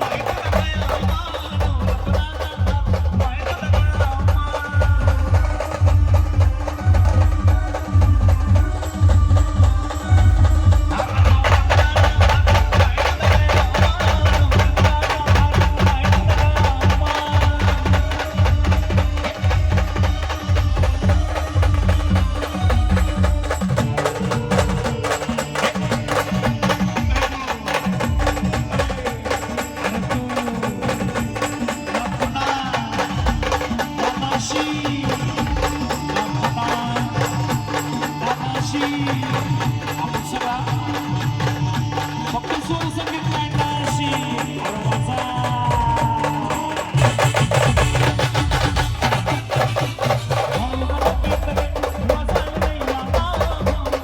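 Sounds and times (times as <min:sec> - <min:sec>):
band playing dance song: 0:00.0 - 0:54.0.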